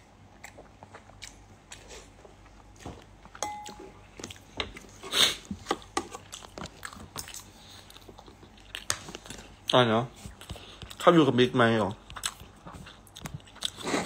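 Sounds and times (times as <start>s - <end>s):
chewing and crunching food: 0.0s - 14.0s.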